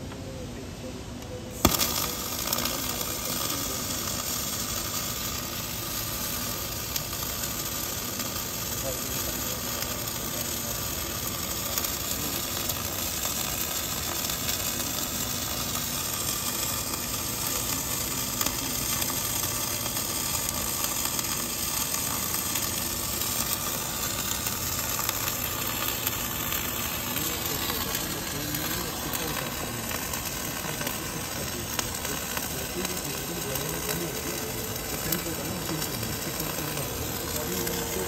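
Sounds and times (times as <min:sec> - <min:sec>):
welding arc crackling sizzle: 0:00.0 - 0:38.0.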